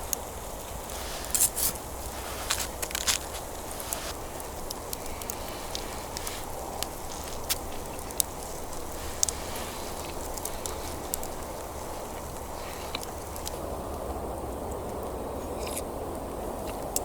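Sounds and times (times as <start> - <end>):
steady rushing fire noise: 0.0 - 14.7
campfire crackling and popping: 0.0 - 17.0.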